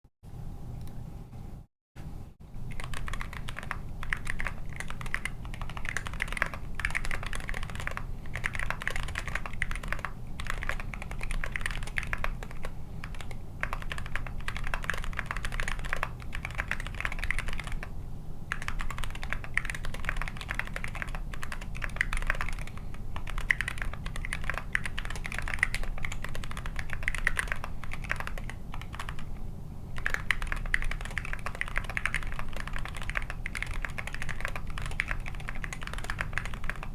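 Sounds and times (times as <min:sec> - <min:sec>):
fast typing on mechanical keyboard: 0:02.7 - 0:17.9, 0:18.5 - 0:29.4, 0:30.0 - 0:36.9.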